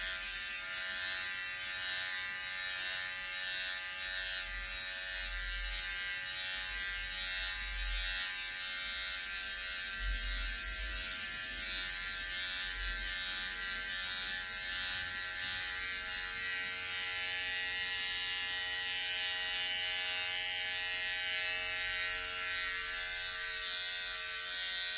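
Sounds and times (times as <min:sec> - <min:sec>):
electric hair clippers buzzing: 0:00.0 - 0:24.9.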